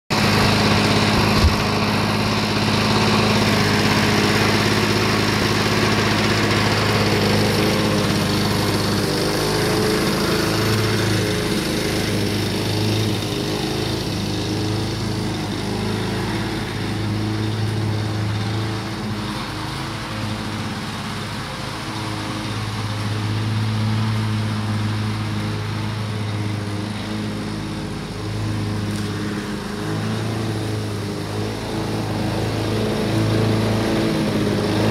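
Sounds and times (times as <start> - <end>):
lawn mower engine running: 0.1 - 34.9.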